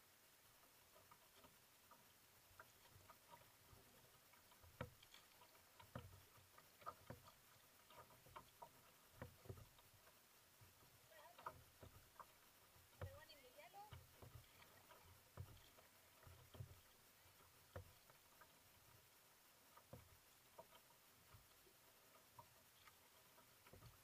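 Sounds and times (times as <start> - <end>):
paddle splashing in water: 0.0 - 24.0
paddle knocking against hull: 0.9 - 19.1, 19.8 - 24.0.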